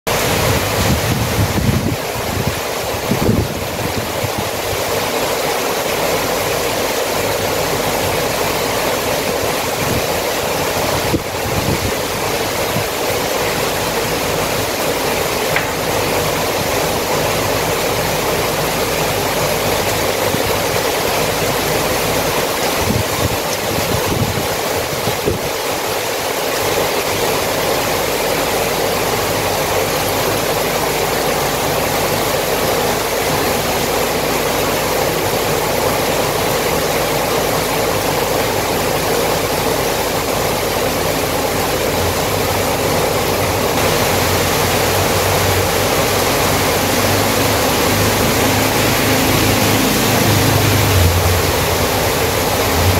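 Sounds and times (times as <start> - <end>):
heavy rain: 0.1 - 52.9.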